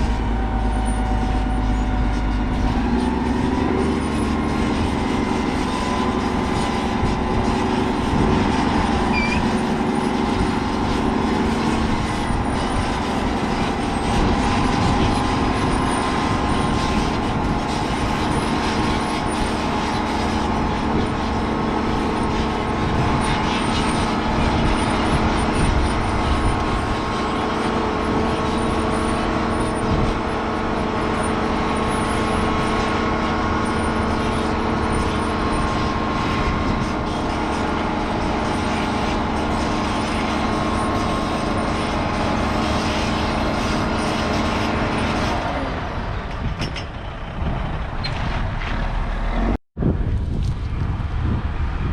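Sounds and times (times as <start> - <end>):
diesel farm machinery running: 0.0 - 51.9.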